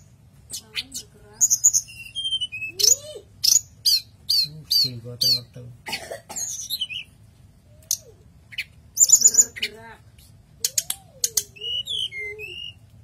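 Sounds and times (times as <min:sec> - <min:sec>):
bird chirping and trilling: 0:00.0 - 0:13.0.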